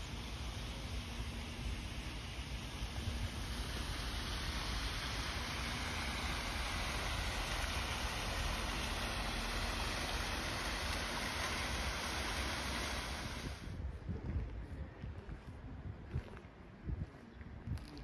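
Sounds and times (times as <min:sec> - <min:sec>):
rushing noise with low rumble: 0:00.0 - 0:18.0.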